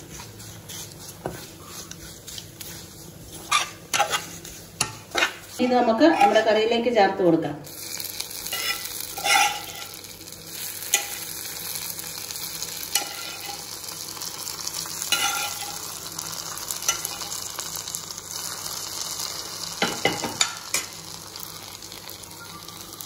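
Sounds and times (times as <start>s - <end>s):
hot oil sizzling in a pan: 0.0s - 6.6s, 7.6s - 23.0s.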